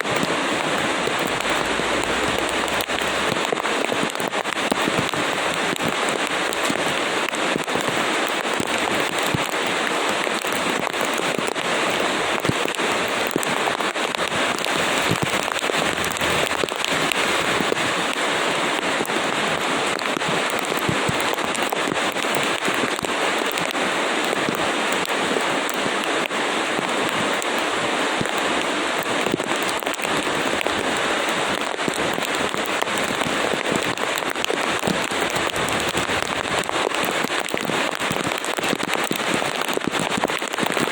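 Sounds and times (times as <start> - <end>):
raindrop hits: 0.0 - 25.1, 27.0 - 40.9
steady rainfall: 0.0 - 40.9.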